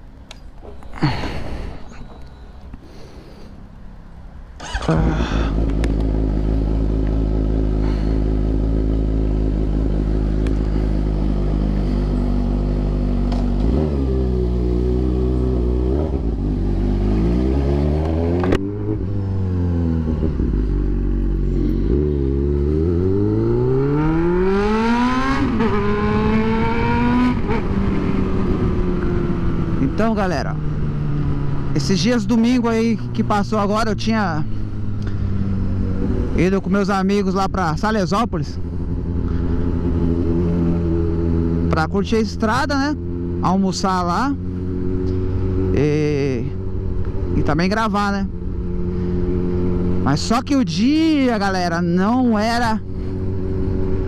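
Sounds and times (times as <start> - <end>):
motorcycle engine: 4.4 - 54.0.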